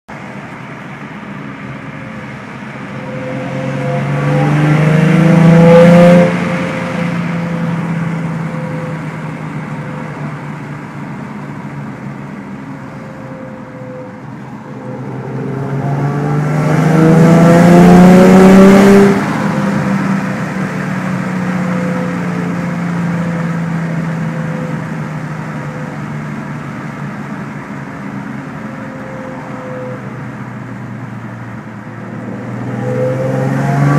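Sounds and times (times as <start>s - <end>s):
car engine revving: 1.3s - 33.9s.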